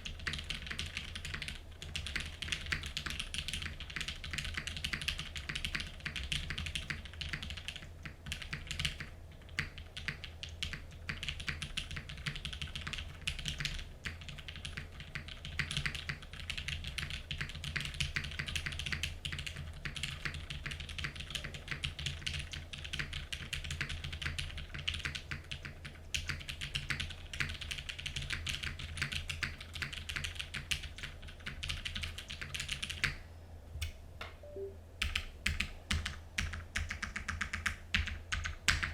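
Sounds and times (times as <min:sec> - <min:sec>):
mechanical keyboard typing: 0:00.0 - 0:33.2, 0:35.0 - 0:38.9.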